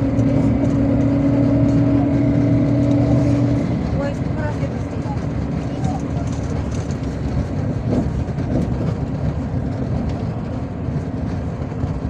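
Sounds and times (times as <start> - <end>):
coach engine and tyre rumble: 0.0 - 12.0.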